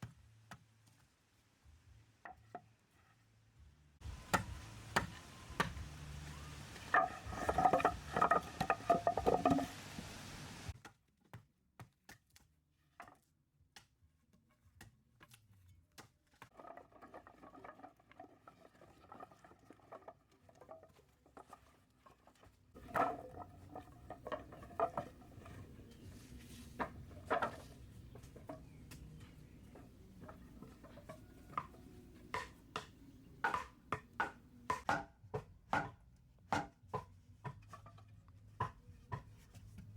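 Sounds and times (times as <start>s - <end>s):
tools tapping and scraping: 4.3s - 11.0s, 12.0s - 39.9s.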